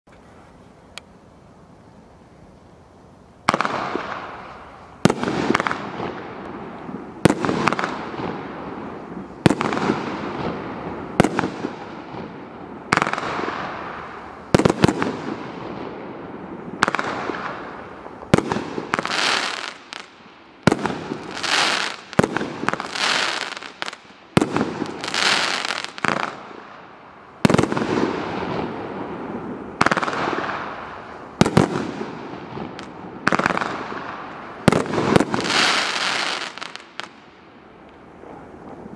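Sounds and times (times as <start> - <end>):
firework bangs with crackling tails: 3.4 - 26.8, 27.4 - 37.3.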